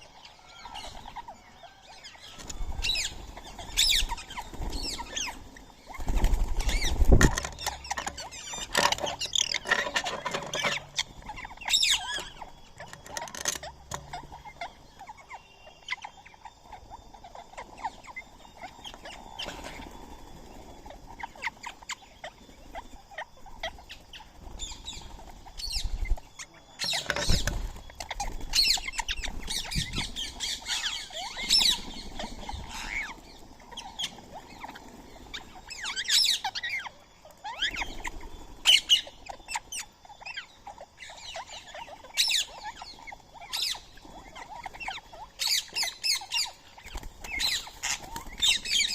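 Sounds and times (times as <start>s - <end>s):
parakeets squawking and chirping: 0.0s - 48.9s.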